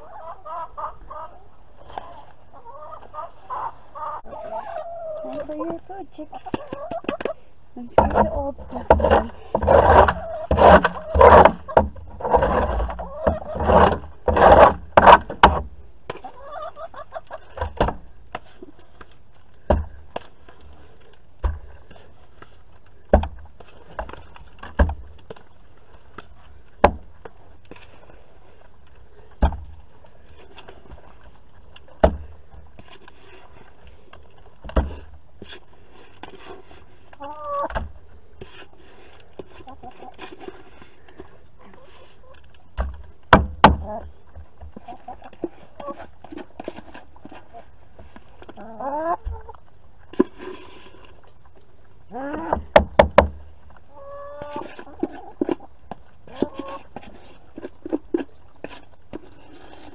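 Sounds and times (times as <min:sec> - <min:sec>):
hens pecking on metal trough: 0:00.0 - 0:59.9.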